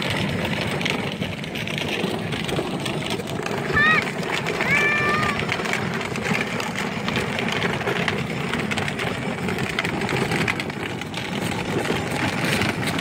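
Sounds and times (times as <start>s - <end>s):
plastic wheels rolling on rough ground: 0.0s - 13.0s.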